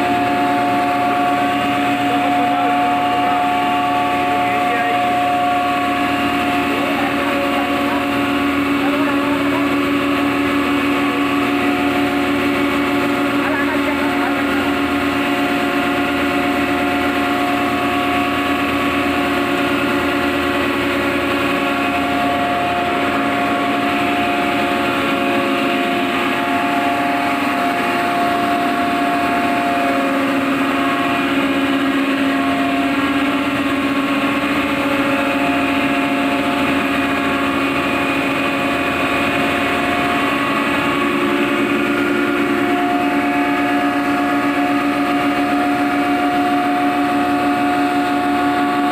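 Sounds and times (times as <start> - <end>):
grinding machinery droning: 0.0 - 48.9.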